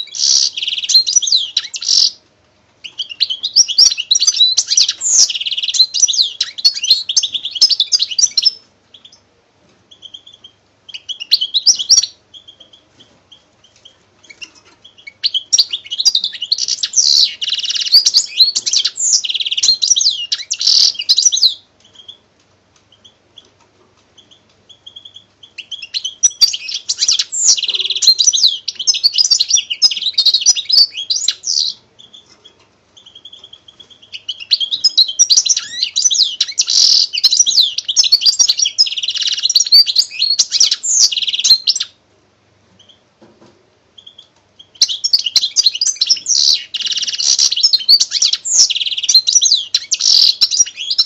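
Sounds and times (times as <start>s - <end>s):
birds chirping and trilling: 0.0s - 2.2s, 2.8s - 9.3s, 9.9s - 42.0s, 42.7s - 51.0s.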